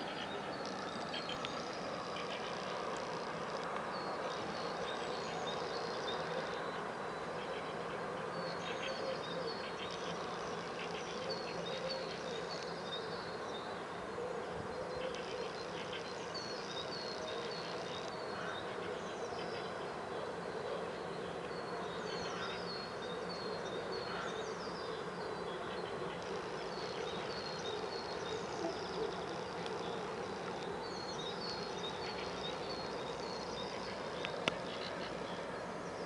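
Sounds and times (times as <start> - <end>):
songbirds chirping: 0.0 - 36.0
steady background noise: 0.0 - 36.0.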